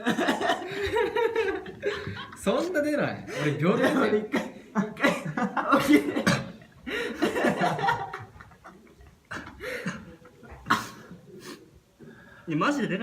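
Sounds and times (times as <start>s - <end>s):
young men laughing: 0.0s - 11.2s.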